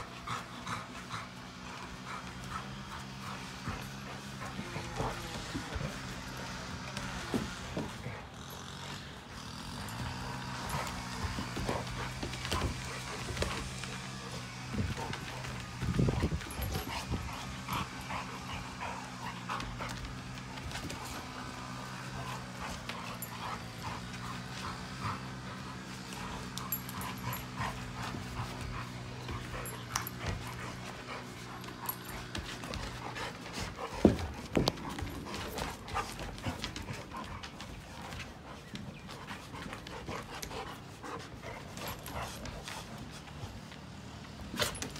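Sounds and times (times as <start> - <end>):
dogs panting and whimpering: 0.0 - 44.9
paws clicking on deck boards: 0.0 - 44.9.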